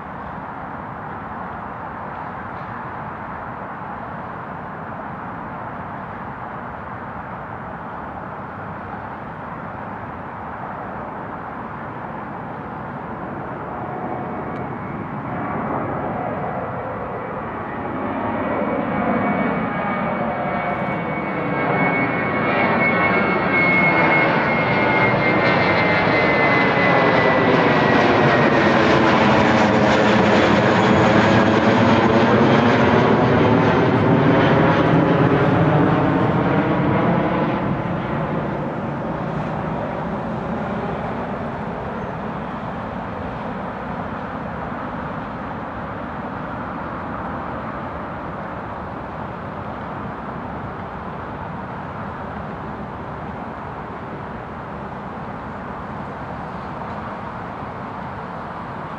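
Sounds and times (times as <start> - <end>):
jet engines passing overhead: 0.0 - 58.9.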